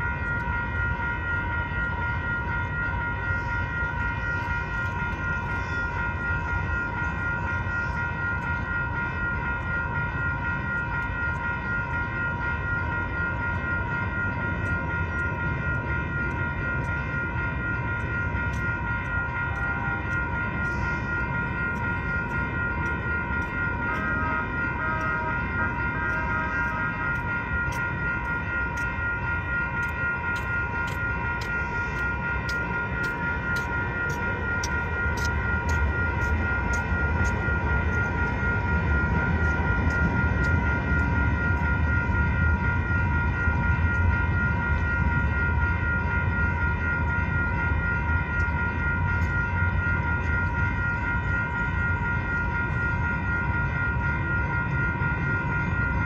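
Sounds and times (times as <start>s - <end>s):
railroad crossing bells ringing: 0.0s - 56.0s.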